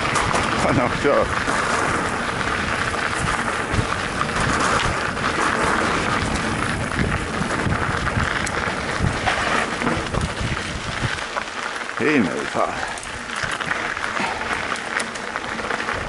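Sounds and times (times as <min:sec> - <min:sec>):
bike knocking and rattling: 0:00.0 - 0:16.0
bike tyres rolling: 0:00.0 - 0:16.0
wind buffeting microphone: 0:00.0 - 0:16.0.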